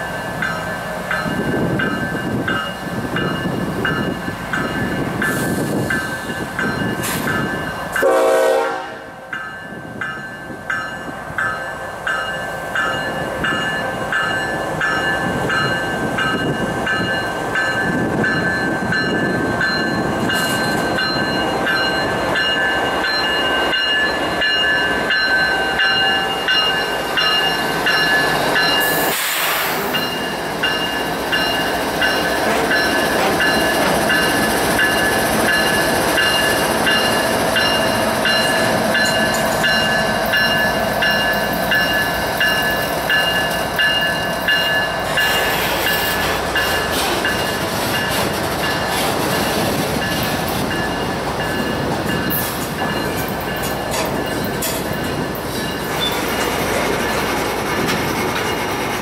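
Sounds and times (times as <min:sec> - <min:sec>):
freight train rolling: 0:00.0 - 0:59.0.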